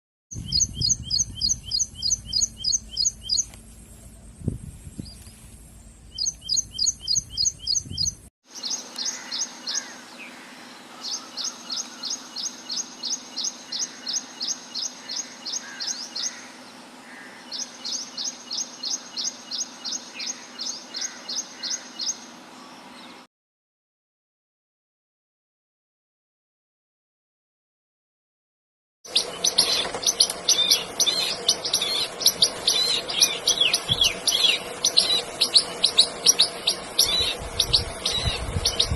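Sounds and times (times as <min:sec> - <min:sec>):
songbird singing: 0:00.3 - 0:23.3, 0:29.1 - 0:38.9
faint steady background hum: 0:00.4 - 0:23.3, 0:29.1 - 0:38.9.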